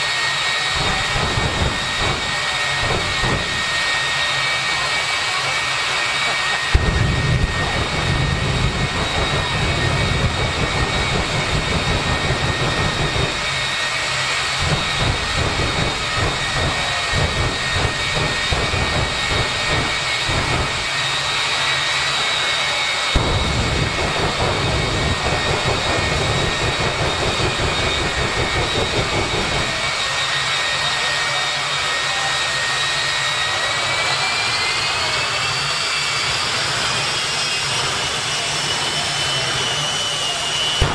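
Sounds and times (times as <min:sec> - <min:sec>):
jet engine whine and rumble: 0:00.0 - 0:40.9.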